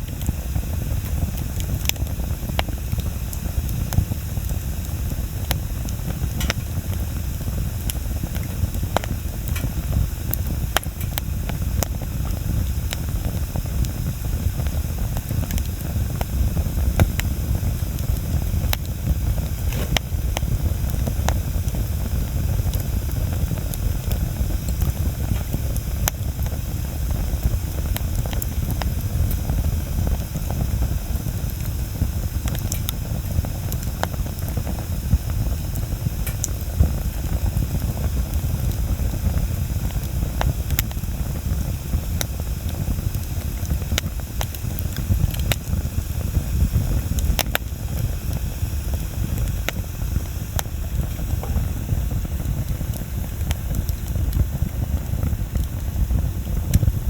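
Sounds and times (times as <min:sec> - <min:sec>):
bonfire flames rumbling: 0:00.0 - 0:57.0
burning wood crackling and popping: 0:00.0 - 0:57.0.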